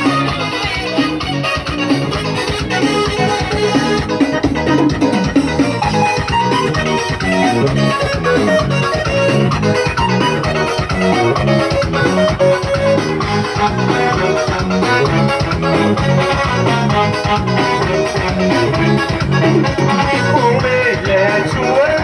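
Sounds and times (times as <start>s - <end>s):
upbeat dance music with bass and guitar: 0.0s - 22.0s.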